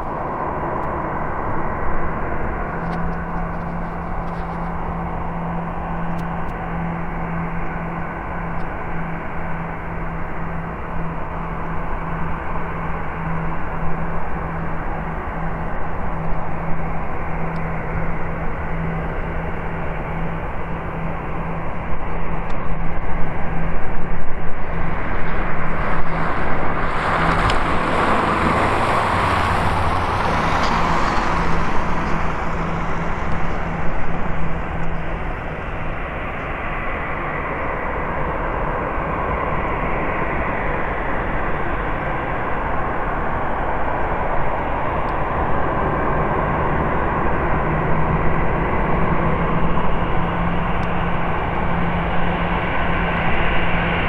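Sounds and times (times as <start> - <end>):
high jet engine whine: 0.0 - 54.0
jet airliner passing: 0.0 - 54.0.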